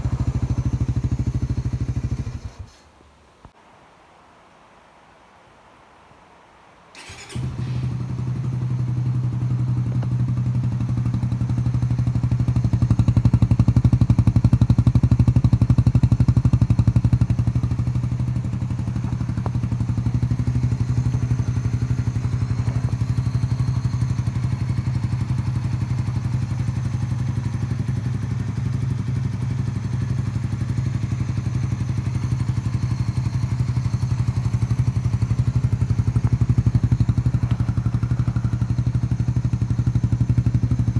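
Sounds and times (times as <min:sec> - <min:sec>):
motorcycle exhaust running: 0:00.0 - 0:02.7, 0:07.8 - 0:40.9.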